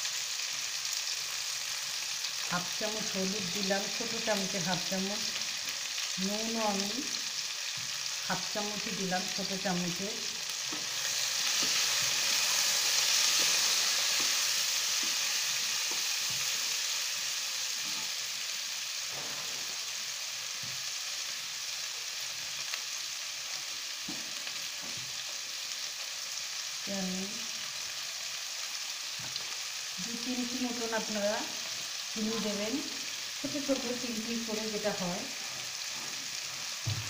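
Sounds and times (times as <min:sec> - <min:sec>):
beans sizzling in hot oil: 0:00.0 - 0:37.0.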